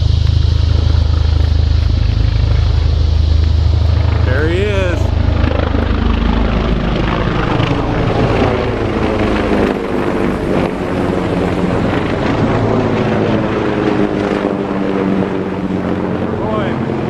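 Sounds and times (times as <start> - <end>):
helicopter engine whine: 0.0 - 17.0
helicopter rotor beat: 0.0 - 17.0.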